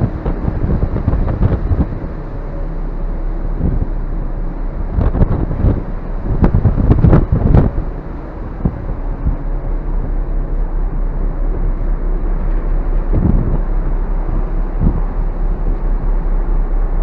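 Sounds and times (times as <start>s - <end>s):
ferry engine rumble: 0.0s - 17.0s
wind gusting on microphone: 0.0s - 17.0s.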